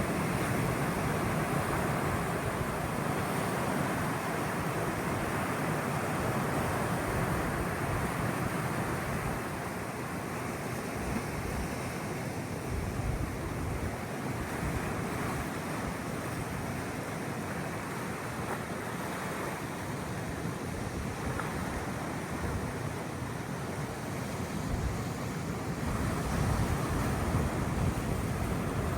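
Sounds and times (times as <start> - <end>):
sea waves washing onto shore: 0.0 - 28.9.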